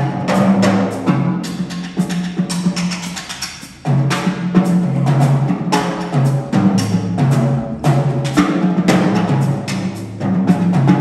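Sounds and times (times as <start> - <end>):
jazz big band playing: 0.0 - 11.0.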